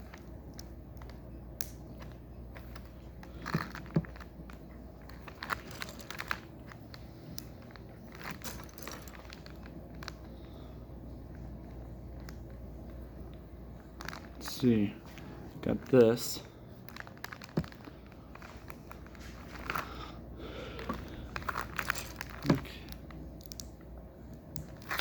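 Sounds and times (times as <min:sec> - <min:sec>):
crinkling: 0:00.0 - 0:25.0.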